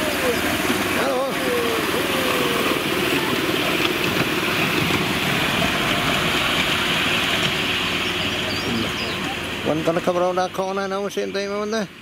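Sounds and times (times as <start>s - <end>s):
small locomotive engine running: 0.0s - 12.0s.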